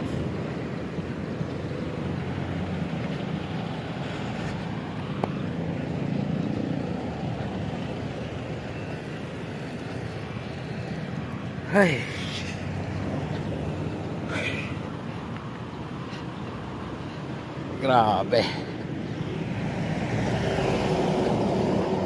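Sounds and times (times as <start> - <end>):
traffic engines humming: 0.0 - 22.0.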